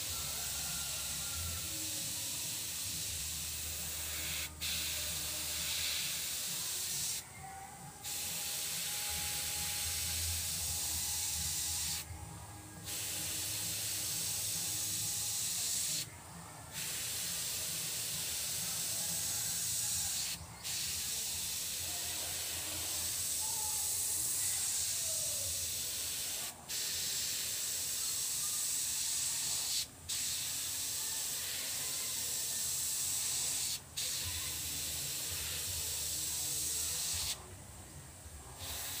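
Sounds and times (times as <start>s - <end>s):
airbrush hissing: 0.0s - 7.3s, 8.0s - 12.1s, 12.8s - 16.1s, 16.7s - 37.4s, 38.6s - 39.0s.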